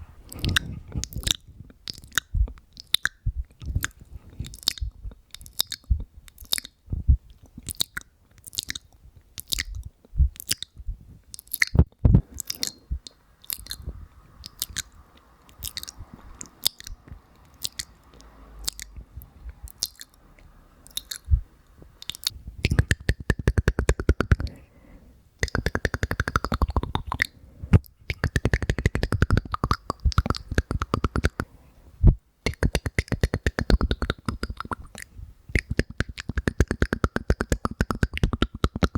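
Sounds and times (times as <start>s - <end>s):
wet mouth clicks and pops: 0.3s - 19.0s, 19.7s - 21.4s, 22.0s - 24.6s, 25.4s - 31.6s, 32.5s - 38.9s.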